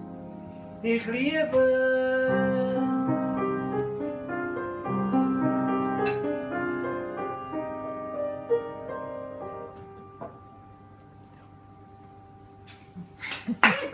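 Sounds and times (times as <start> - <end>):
live keyboard music: 0.0 - 12.6.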